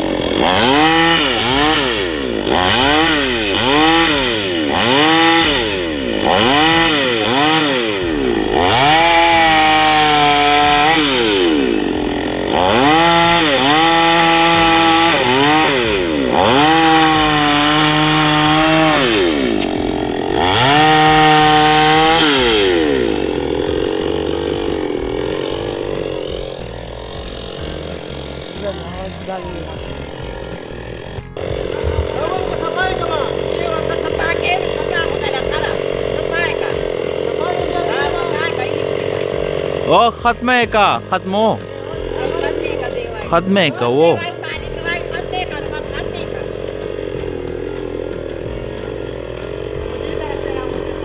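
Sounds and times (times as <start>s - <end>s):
chainsaw engine revving: 0.0s - 51.0s.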